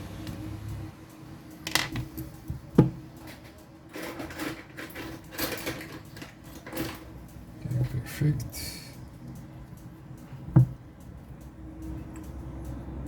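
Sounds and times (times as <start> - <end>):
tools clicking and scraping: 0.2 - 13.0.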